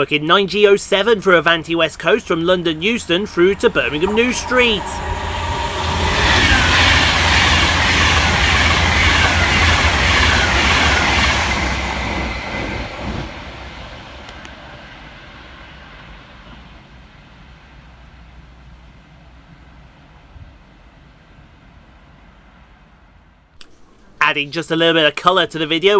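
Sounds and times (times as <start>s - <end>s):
electric train passing at speed: 0.0s - 25.9s.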